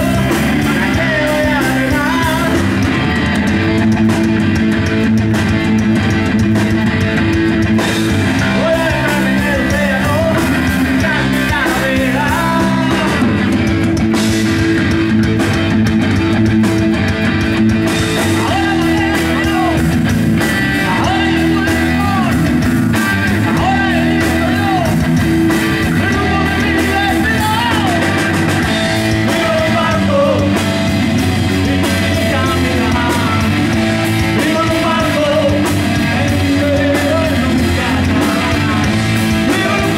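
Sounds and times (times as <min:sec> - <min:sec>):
drum kit: 0:00.0 - 0:39.9
electric bass: 0:00.0 - 0:39.9
electric guitar with bent notes: 0:00.0 - 0:39.9.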